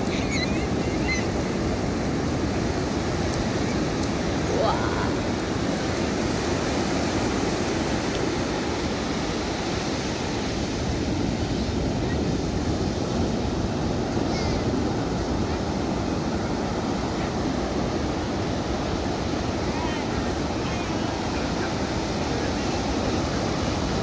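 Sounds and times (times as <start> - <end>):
ocean surf washing onto beach: 0.0 - 24.0.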